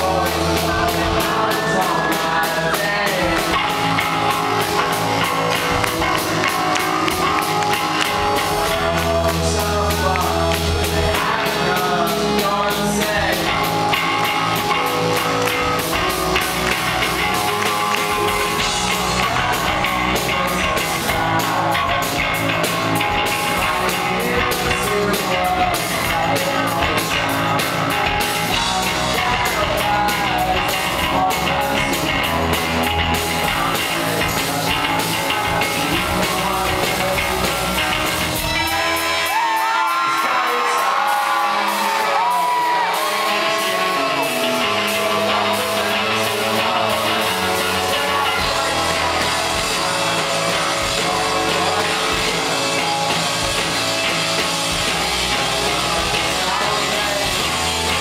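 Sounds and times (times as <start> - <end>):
rock band playing live: 0.0 - 58.0
sliding high guitar notes: 0.0 - 58.0.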